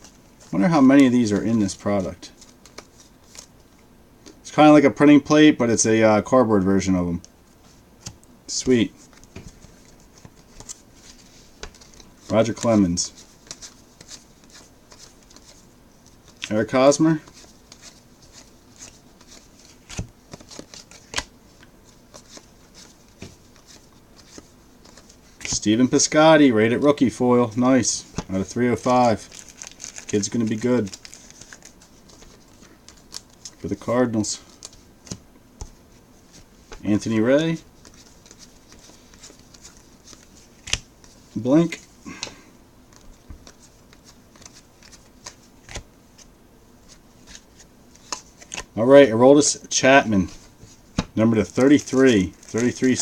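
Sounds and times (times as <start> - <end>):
cards being flipped: 0.0 - 3.5, 8.0 - 26.0, 27.5 - 48.7, 50.2 - 53.0.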